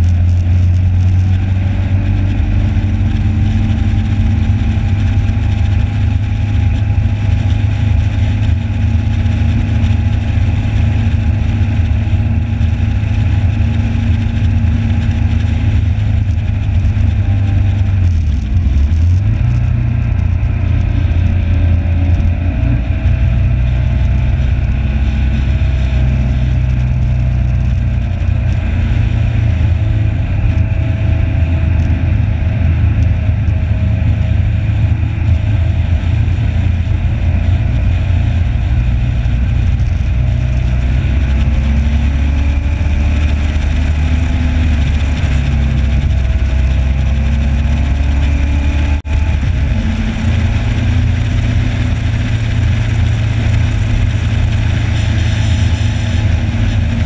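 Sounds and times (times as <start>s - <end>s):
motorcycle engine revving: 0.0s - 57.0s
wind rush on microphone: 0.0s - 57.0s.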